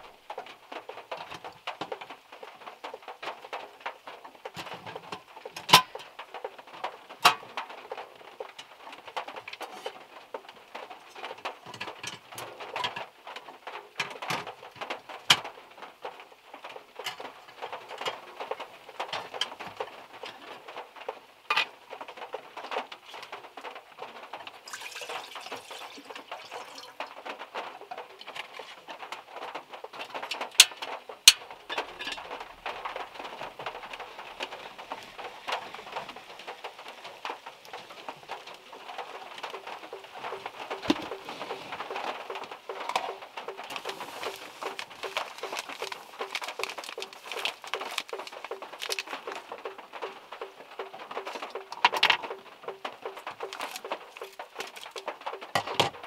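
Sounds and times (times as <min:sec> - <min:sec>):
raindrops tapping on car roof: 0:00.0 - 0:56.0.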